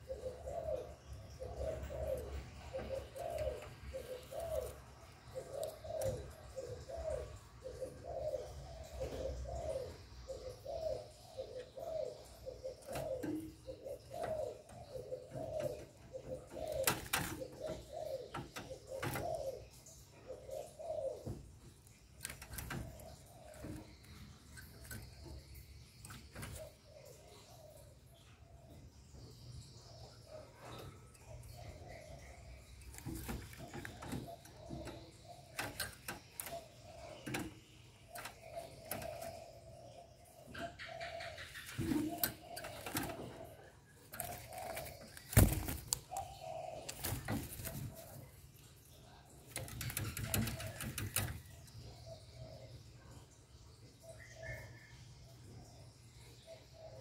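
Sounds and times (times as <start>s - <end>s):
dove cooing: 0.0s - 53.2s, 56.4s - 57.0s.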